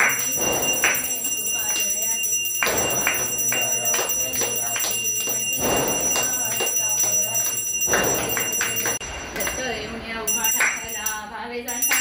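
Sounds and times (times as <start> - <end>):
small hand bell ringing: 0.0 - 12.0
voices singing: 0.0 - 12.0.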